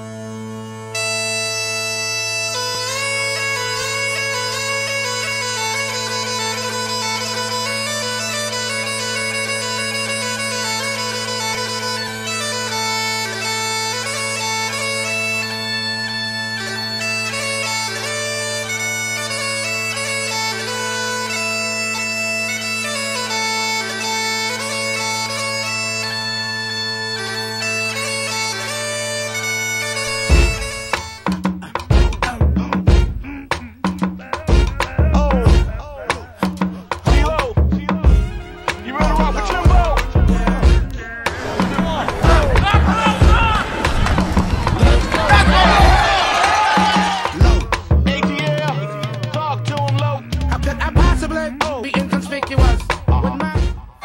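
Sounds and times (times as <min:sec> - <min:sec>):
bagpipe chanter melody: 0:00.0 - 0:44.0
bagpipe drones: 0:00.0 - 0:54.0.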